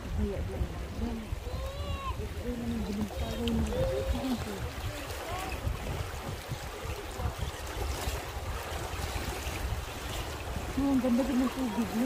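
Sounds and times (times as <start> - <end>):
river rapids rushing and splashing: 0.0 - 12.0.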